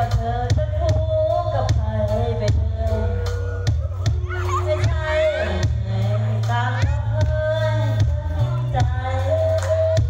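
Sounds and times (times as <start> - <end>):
drum kit steady beat: 0.0 - 10.0
heavy bass: 0.0 - 10.0.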